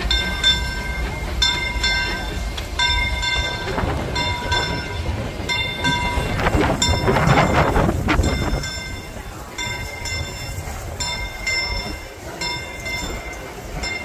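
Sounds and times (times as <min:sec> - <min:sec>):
loud rushing steam: 0:00.0 - 0:14.0
steam locomotive bell ringing: 0:00.0 - 0:14.0.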